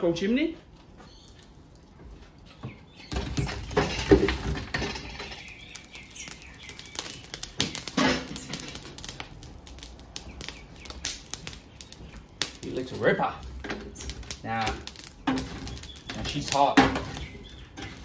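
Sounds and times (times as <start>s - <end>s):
coals crackling and popping: 0.0s - 18.0s
charcoal clattering onto coals: 0.2s - 18.0s.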